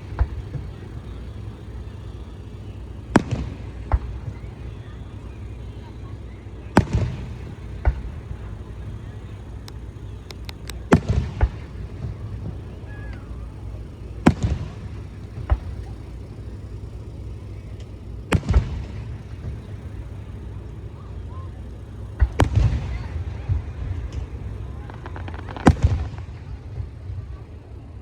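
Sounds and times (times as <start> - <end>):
fireworks bursting with loud bangs: 0.0 - 27.7
echoing rumble: 0.0 - 28.0
small fireworks pops: 0.0 - 28.0.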